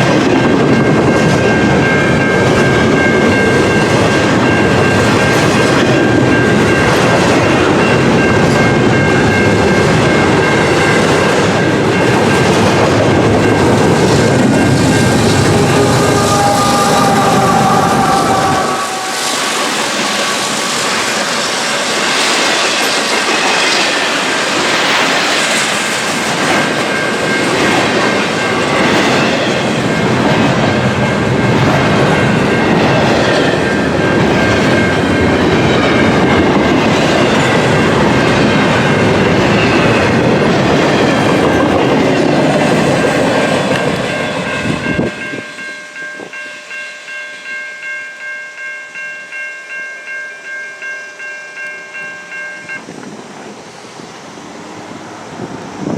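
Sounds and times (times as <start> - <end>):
freight train wheels clacking: 0.0 - 46.4
crossing bell ringing: 0.0 - 53.2.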